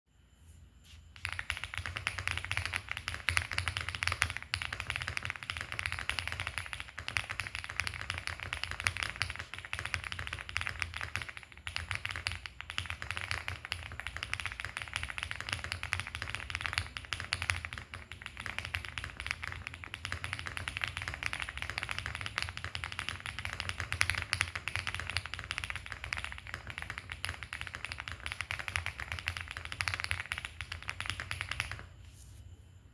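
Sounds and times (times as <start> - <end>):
fast mechanical keyboard typing: 1.2 - 31.9.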